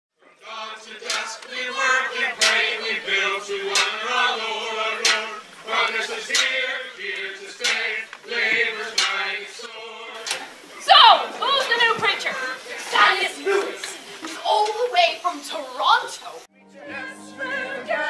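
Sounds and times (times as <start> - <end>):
group of voices singing: 0.2 - 18.0.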